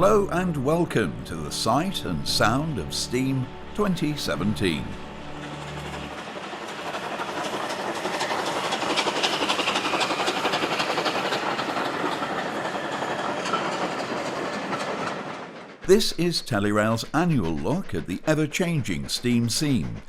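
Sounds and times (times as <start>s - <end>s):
steam train rushing and clattering: 0.0s - 20.0s.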